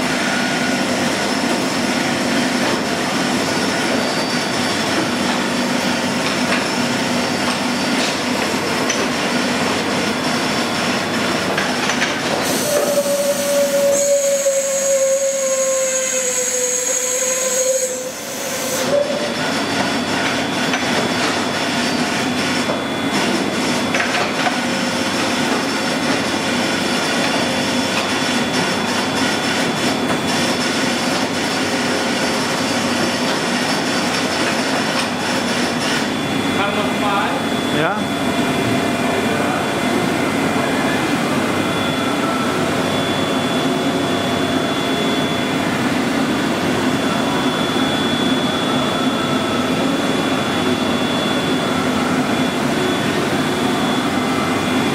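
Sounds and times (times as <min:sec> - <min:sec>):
loud machine whine: 0:00.0 - 0:54.9.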